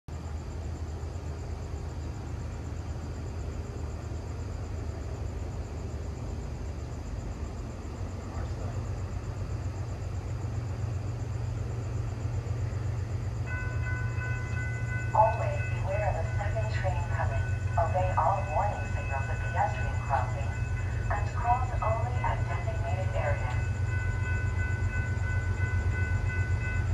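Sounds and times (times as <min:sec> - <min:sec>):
distant freight train rumbling: 0:00.1 - 0:26.9.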